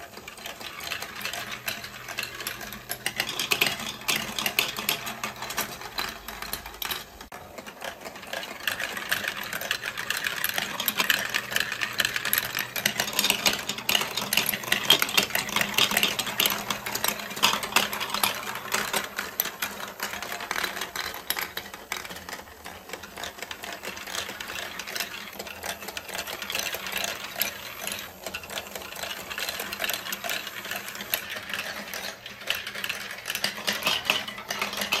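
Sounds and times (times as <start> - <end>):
electric ball elevator hum: 0.0 - 35.0
plastic balls rattling down tracks: 0.0 - 35.0.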